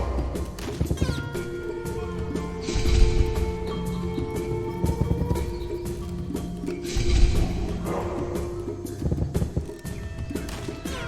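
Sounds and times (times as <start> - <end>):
looping game music: 0.0 - 11.0.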